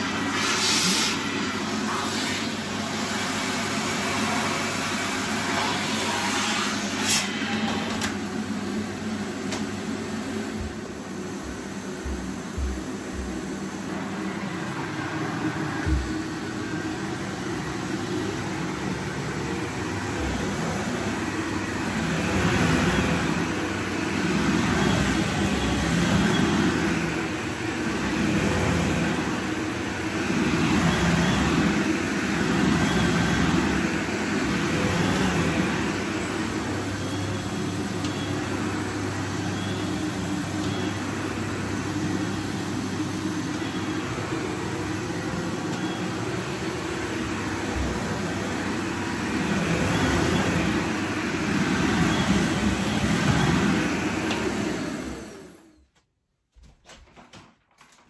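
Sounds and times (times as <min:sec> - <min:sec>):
vacuum cleaner on carpet: 0:00.0 - 0:55.8.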